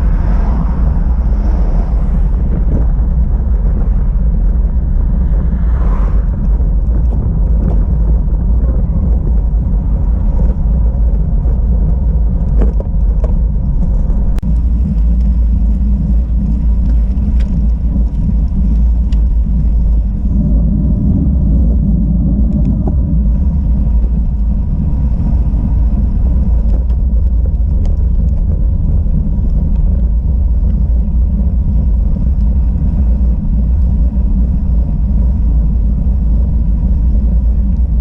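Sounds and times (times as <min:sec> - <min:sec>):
bicycle tyre noise on road: 0:00.0 - 0:38.0
wind buffeting microphone: 0:00.0 - 0:38.0.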